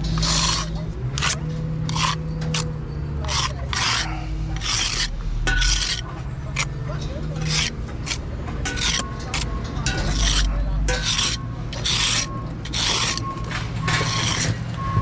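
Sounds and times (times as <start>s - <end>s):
jointer scraping mortar: 0.0s - 14.8s.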